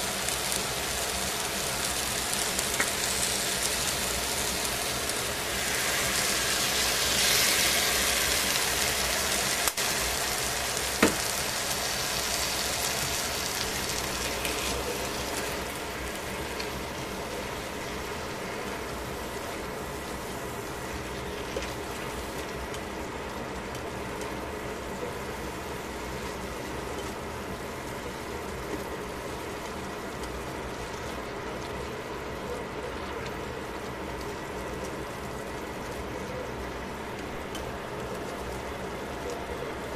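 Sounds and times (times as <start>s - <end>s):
vegetables sizzling in a pot: 0.0s - 39.9s.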